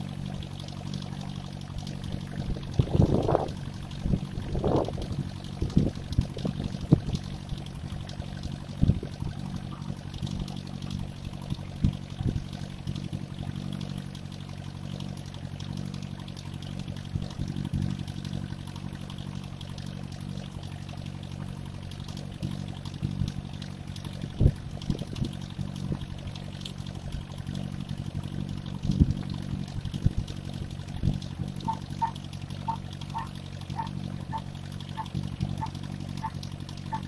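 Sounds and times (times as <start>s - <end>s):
tractor diesel engine idling: 0.0s - 37.0s.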